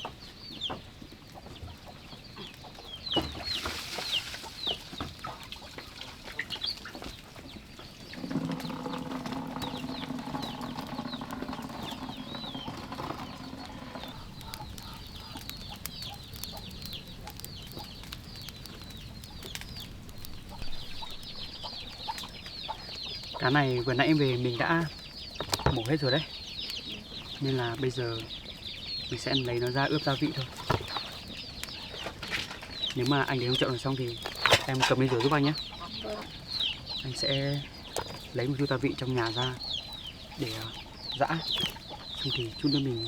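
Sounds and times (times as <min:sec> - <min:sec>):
chicks peeping: 0:00.0 - 0:43.0.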